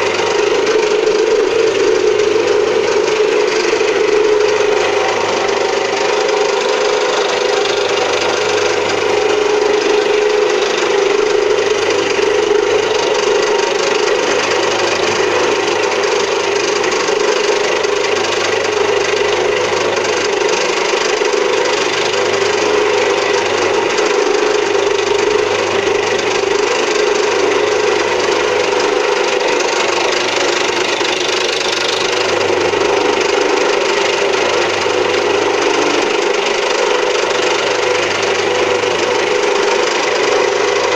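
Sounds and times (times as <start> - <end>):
milling cutter cutting noise: 0.0 - 40.9
motor hum: 0.0 - 40.9.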